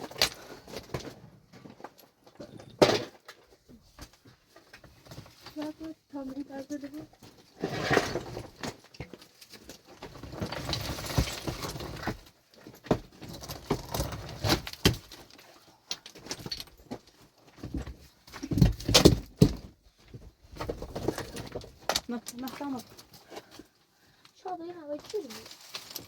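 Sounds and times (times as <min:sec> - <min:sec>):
objects knocking and scraping: 0:00.0 - 0:23.8, 0:24.9 - 0:26.0.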